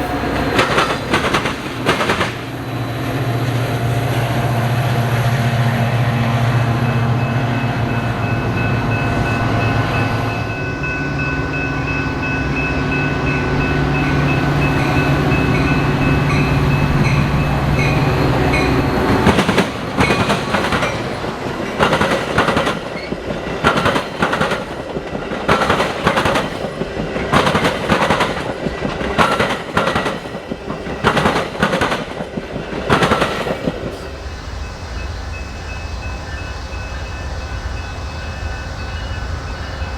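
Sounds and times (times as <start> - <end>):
train wheels clanking on rails: 0.0 - 4.4, 7.1 - 39.9
diesel locomotive engine hum: 0.0 - 39.9.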